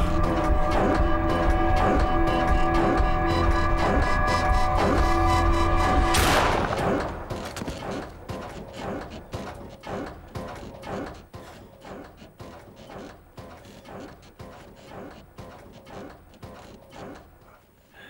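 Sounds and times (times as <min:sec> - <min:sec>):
droning suspense music: 0:00.0 - 0:17.4.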